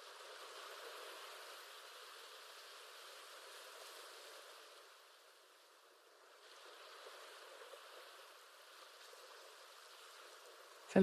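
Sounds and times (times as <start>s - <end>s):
faint ocean waves washing: 0.0s - 11.0s.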